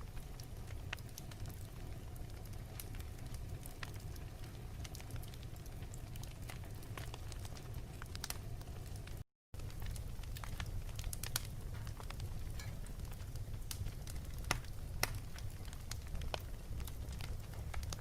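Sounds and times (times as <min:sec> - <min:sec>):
fireplace crackling: 0:00.0 - 0:18.0.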